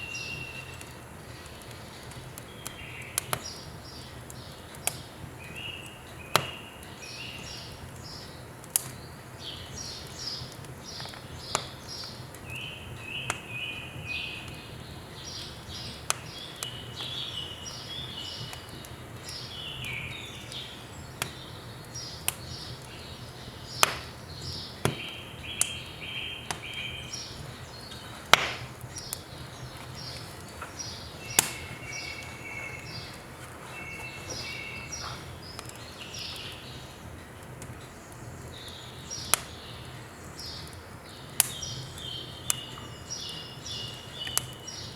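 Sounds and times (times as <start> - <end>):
firewood crackling and popping: 0.0 - 44.9
small birds chirping: 0.0 - 44.9.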